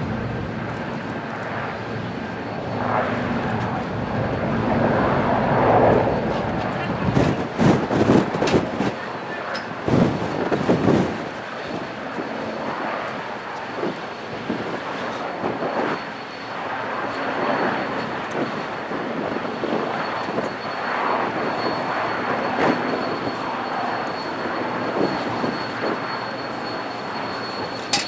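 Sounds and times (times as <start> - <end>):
distant helicopter: 0.0 - 28.0.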